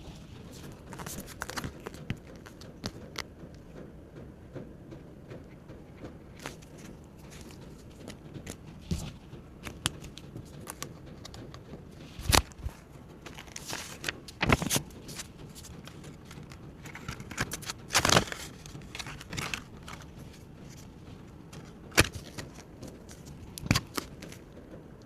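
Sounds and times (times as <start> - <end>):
paper crinkling: 0.0 - 3.3, 6.3 - 24.6.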